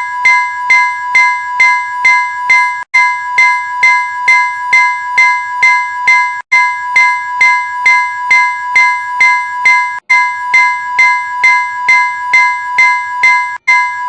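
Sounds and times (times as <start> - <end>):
level crossing warning bell: 0.0 - 14.0.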